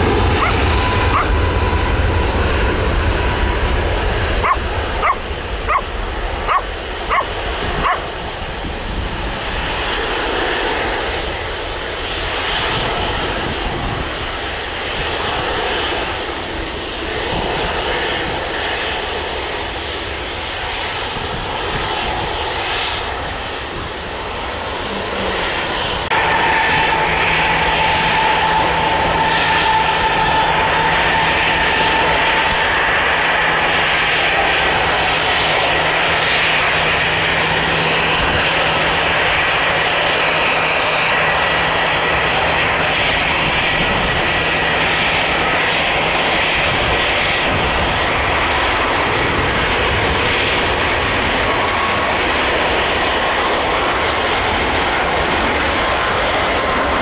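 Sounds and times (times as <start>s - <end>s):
jet engines rumbling: 0.0s - 57.0s
loud engine whine: 0.0s - 57.0s.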